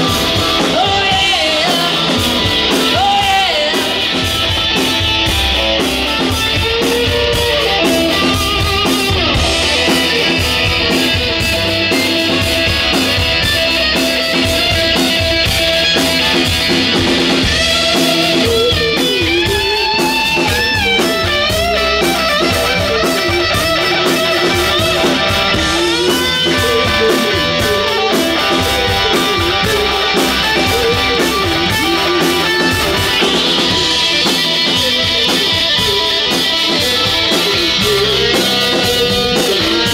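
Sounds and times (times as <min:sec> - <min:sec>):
electric guitar bending notes: 0:00.0 - 0:39.9
rock band playing: 0:00.0 - 0:39.9.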